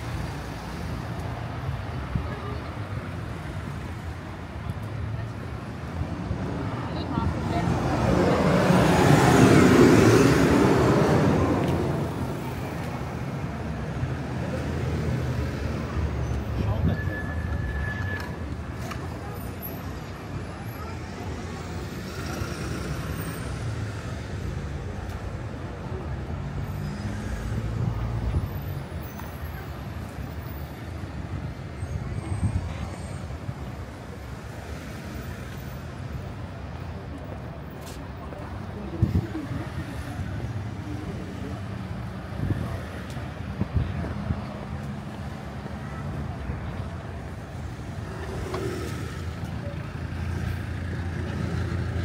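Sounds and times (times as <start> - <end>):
road traffic engine hum: 0.0 - 52.0.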